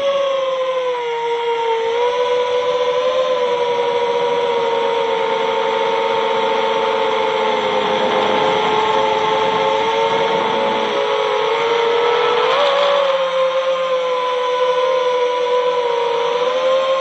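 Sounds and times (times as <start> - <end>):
drone motors whining: 1.7 - 17.0.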